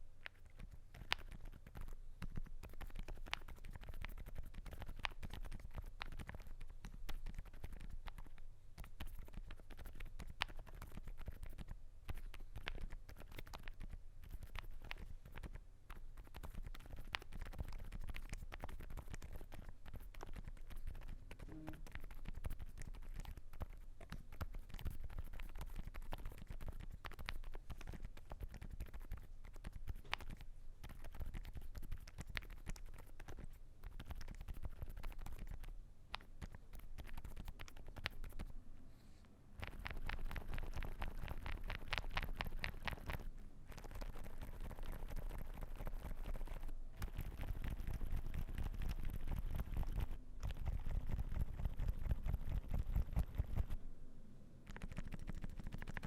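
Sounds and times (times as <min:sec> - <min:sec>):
soft keyboard typing: 0:00.0 - 0:38.5, 0:39.6 - 0:53.8, 0:54.7 - 0:56.0.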